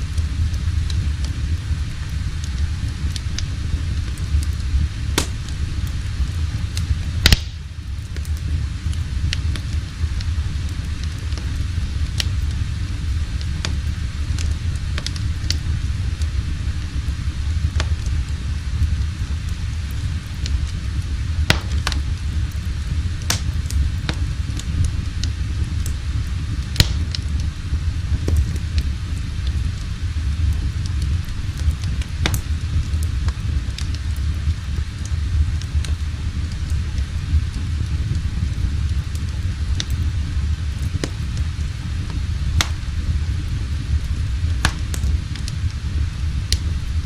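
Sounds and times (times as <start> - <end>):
fire popping: 0.0 - 47.0
wood fire crackling: 0.0 - 47.0.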